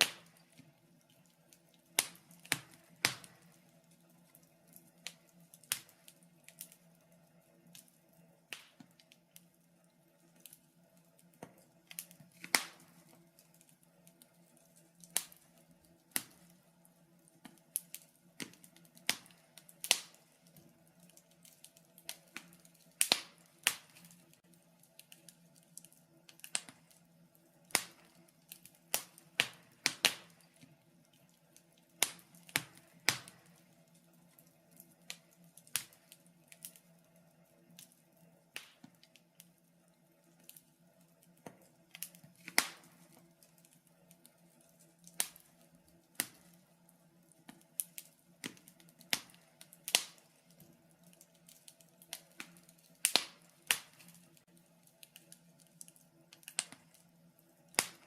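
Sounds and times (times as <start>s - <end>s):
faint steady hum: 0.0s - 58.0s
wood fire crackling: 0.0s - 58.0s.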